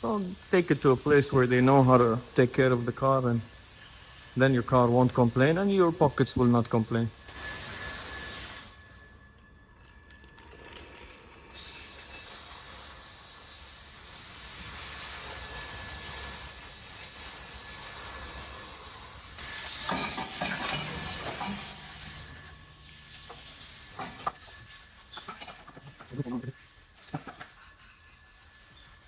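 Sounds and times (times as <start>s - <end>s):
loud steady hiss: 0.0s - 9.2s, 11.5s - 29.0s.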